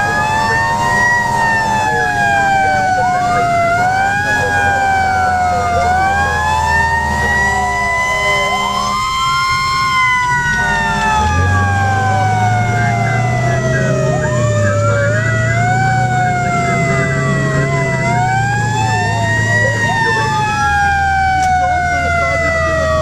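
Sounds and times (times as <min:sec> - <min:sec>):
fire engine siren wailing: 0:00.0 - 0:23.0
truck engine running: 0:00.0 - 0:23.0.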